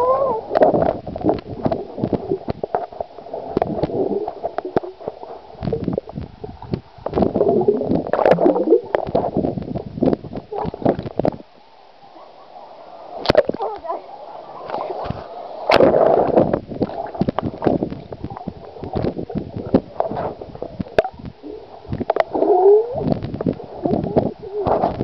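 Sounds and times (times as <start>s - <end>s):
water gurgling: 0.0s - 25.0s.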